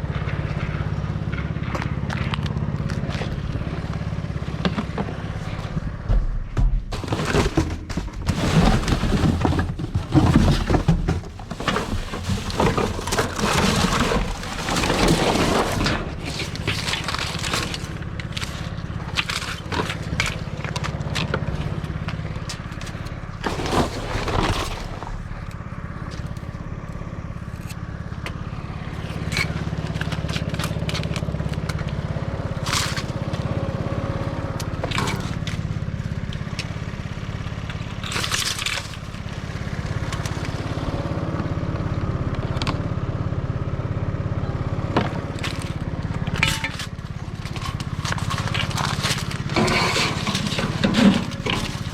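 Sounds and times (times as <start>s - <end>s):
engine running: 0.0s - 51.9s
loud scraping and clattering: 0.1s - 26.6s, 27.4s - 41.0s, 44.9s - 51.9s.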